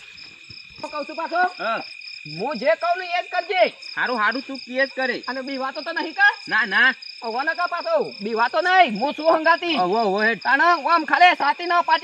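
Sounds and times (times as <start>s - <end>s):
crickets chirping: 0.0s - 12.0s
man's wordless calls: 0.8s - 12.0s.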